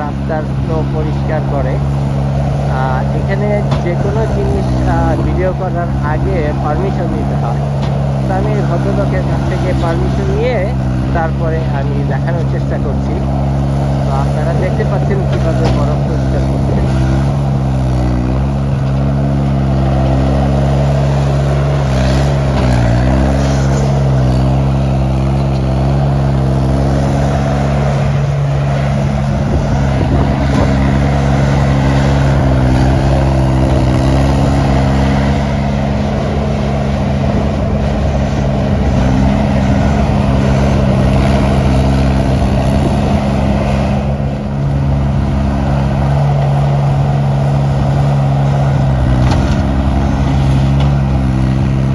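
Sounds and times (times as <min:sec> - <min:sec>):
loader engine running: 0:00.0 - 0:51.9.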